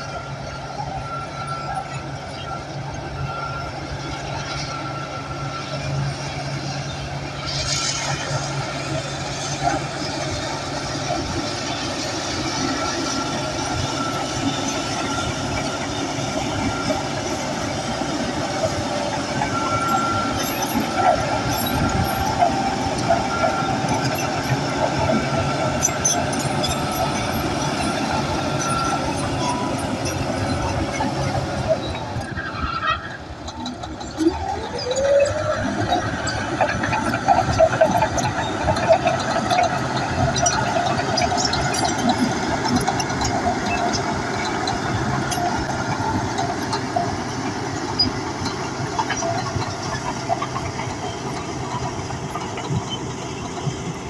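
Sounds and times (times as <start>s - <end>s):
bulldozer engine running: 0.0s - 54.0s
crawler tracks clattering and squeaking: 0.0s - 54.0s.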